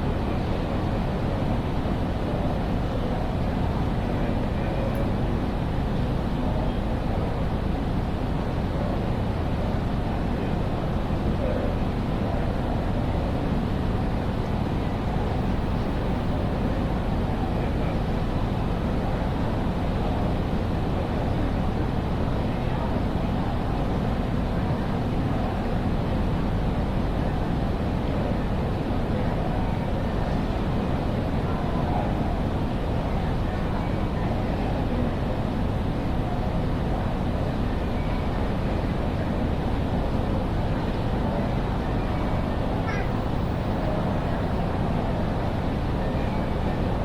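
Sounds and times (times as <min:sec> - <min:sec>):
railway station hall ambience: 0:00.0 - 0:47.0.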